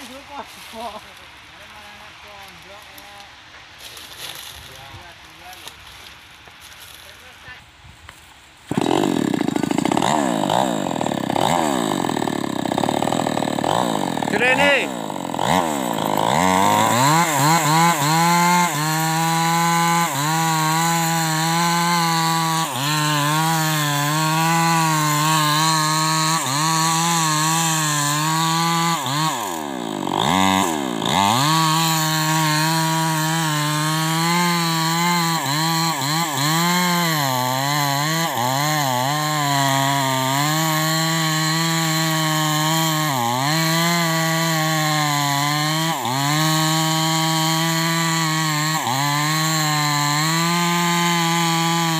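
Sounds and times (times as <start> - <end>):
chainsaw cutting wood: 8.1 - 51.9.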